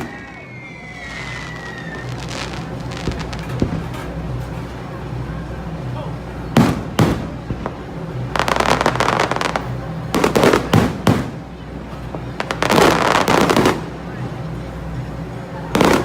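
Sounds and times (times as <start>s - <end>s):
dense firework crackling: 0.0s - 16.0s.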